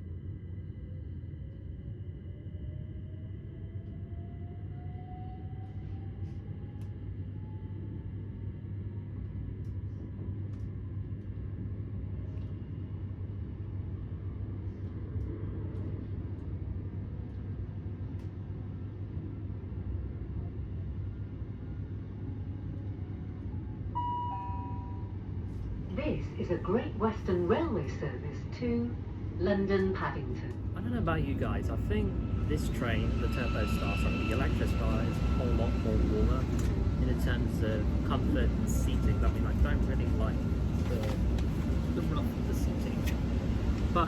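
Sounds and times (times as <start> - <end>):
train rumbling on track: 0.0 - 44.0.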